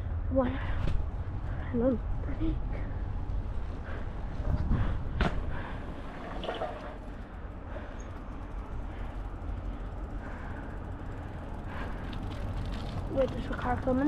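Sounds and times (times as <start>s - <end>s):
wind rumble on microphone: 0.0s - 14.0s
tyres rolling on snowy road: 0.4s - 14.0s.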